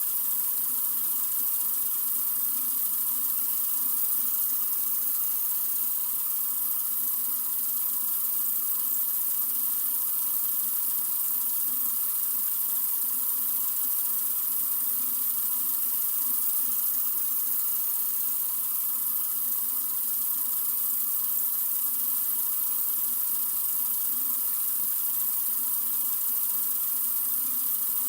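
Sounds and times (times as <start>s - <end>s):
faucet water running into sink: 0.0s - 28.0s.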